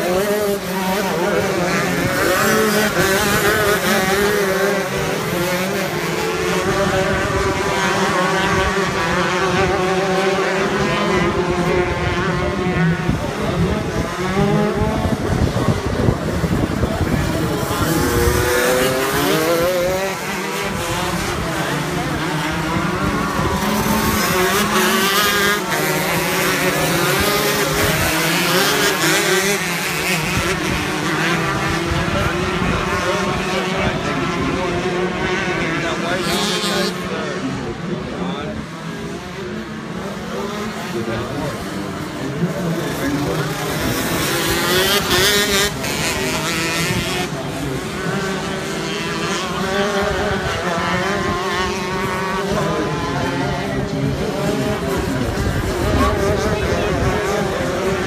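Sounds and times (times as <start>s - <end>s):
kart engines racing: 0.0s - 58.0s.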